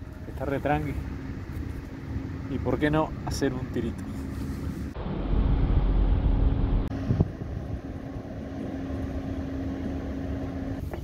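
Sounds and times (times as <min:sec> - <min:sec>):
heavy low rumble: 0:00.0 - 0:09.2
low engine hum: 0:00.0 - 0:11.0.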